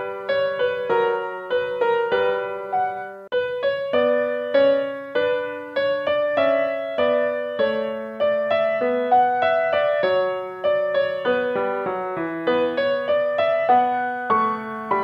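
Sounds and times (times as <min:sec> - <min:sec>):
slow solo piano melody: 0:00.0 - 0:15.0.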